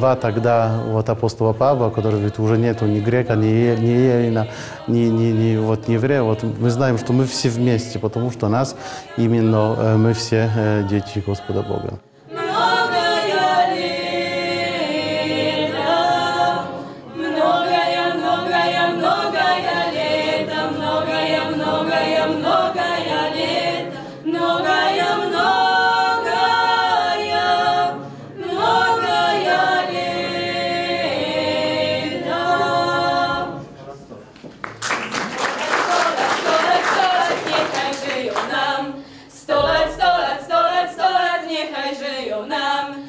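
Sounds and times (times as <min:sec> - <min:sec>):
women singing a cappella: 0:00.0 - 0:33.8, 0:35.6 - 0:43.0.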